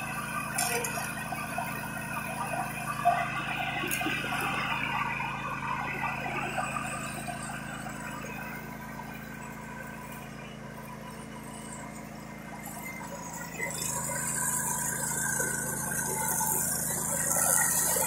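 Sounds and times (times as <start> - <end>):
riding lawn mower engine running: 0.0 - 18.0.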